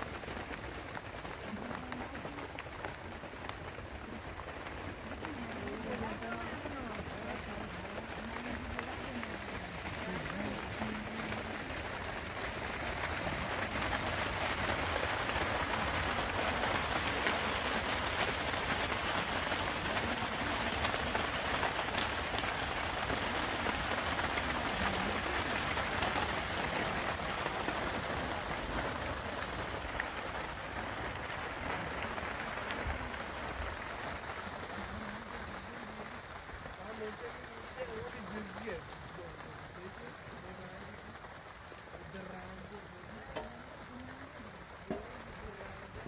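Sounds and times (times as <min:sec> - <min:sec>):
rain on plastic sheeting: 0:00.0 - 0:46.0.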